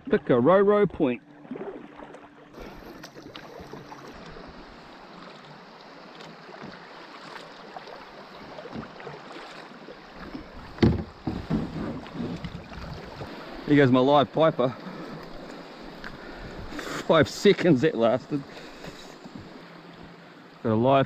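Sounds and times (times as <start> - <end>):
water lapping around a kayak: 0.0 - 21.0
paddle splash: 0.8 - 20.8.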